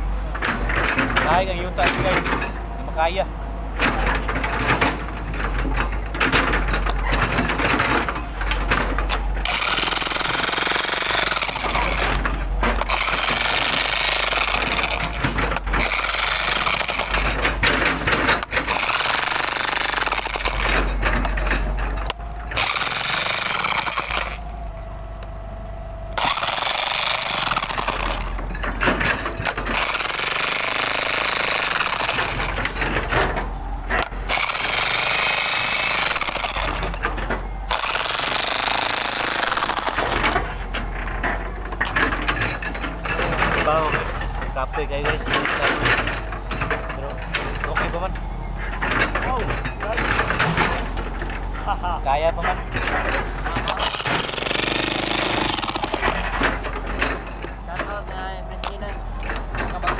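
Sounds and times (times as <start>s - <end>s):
jackhammer hammering soil: 0.0s - 24.6s, 26.1s - 59.9s.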